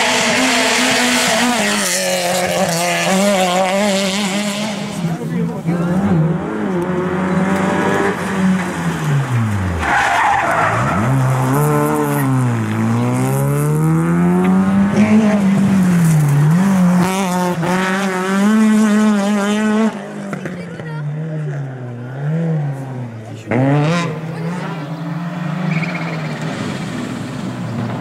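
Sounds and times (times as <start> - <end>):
rally car engine revving: 0.0 - 28.0
second car revving: 0.0 - 28.0.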